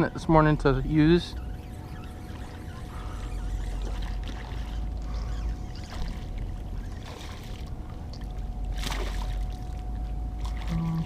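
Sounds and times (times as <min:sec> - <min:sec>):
faint constant hum: 0:00.0 - 0:11.0
steady low rumble: 0:00.0 - 0:11.0
water lapping around boat: 0:00.0 - 0:11.0.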